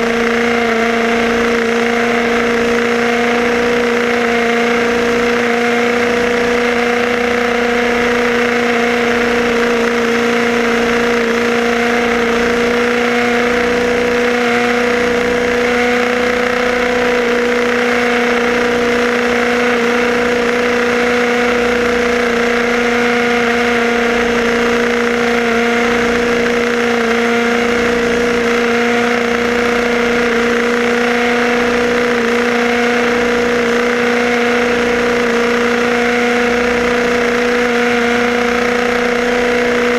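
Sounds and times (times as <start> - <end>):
toy car electric motor whining: 0.0 - 39.9.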